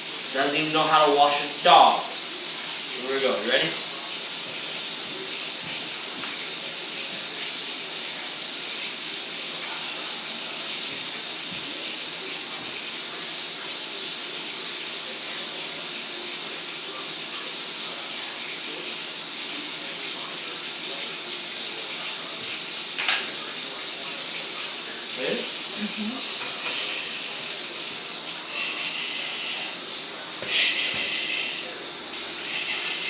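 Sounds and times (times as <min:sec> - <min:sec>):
tap water running: 0:00.0 - 0:33.0.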